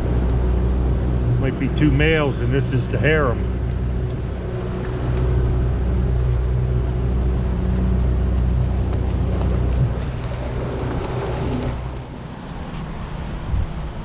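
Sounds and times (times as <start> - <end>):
outboard motor humming: 0.0 - 12.6.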